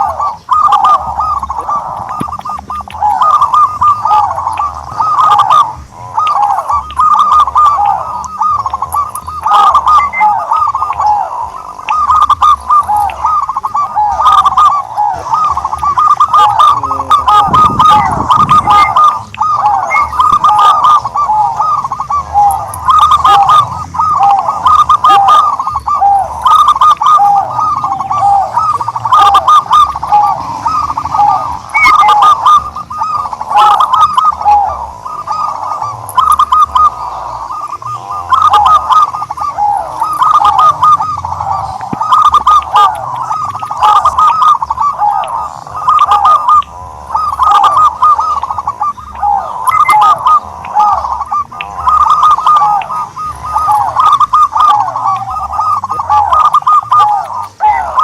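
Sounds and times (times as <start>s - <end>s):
turtledove cooing: 0.0s - 58.0s.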